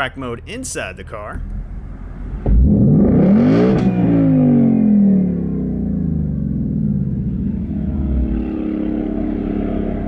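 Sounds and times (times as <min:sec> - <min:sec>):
car engine revving then idling: 0:01.6 - 0:10.0.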